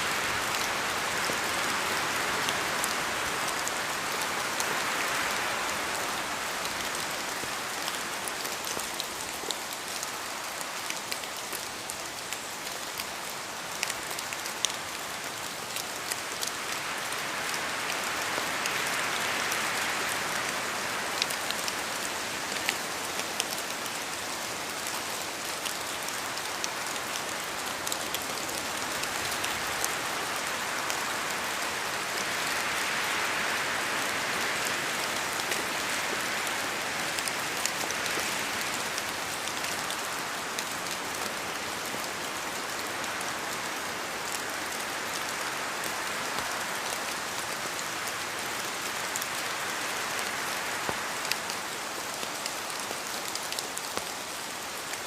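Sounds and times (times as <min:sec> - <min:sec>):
sharp ticks of raindrops: 0:00.0 - 0:55.0
steady rain hissing: 0:00.0 - 0:55.0.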